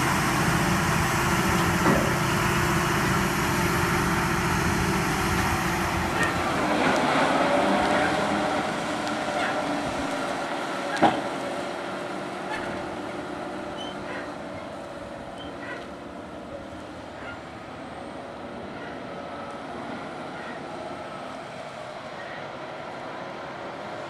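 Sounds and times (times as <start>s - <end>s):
tractor diesel engine: 0.0s - 24.0s.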